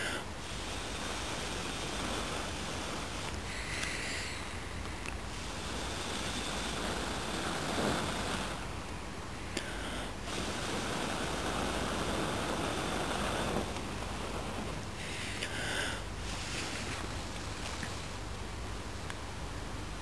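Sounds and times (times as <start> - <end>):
person blowing breaths: 0.0 - 8.7, 9.5 - 17.2.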